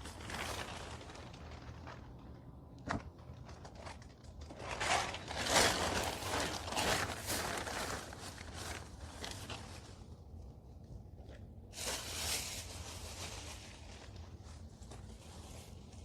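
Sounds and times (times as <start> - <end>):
rustling and scraping: 0.0 - 10.2, 11.2 - 16.0.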